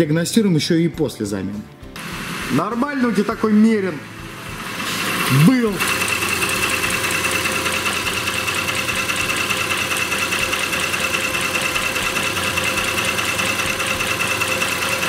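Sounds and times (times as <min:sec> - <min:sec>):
car engine idling: 0:02.0 - 0:15.0.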